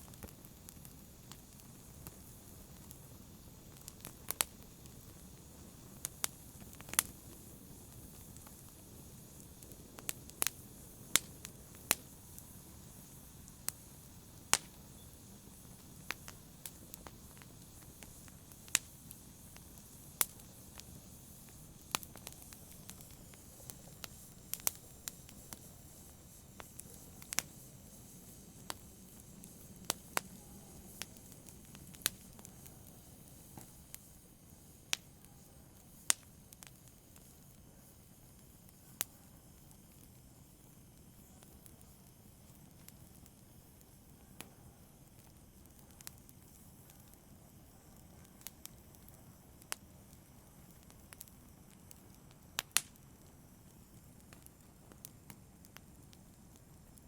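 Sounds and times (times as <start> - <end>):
wood fire pops and snaps: 0.0 - 34.2, 35.8 - 37.6, 38.3 - 47.2, 47.9 - 57.0
low rumble of fire: 0.0 - 57.0.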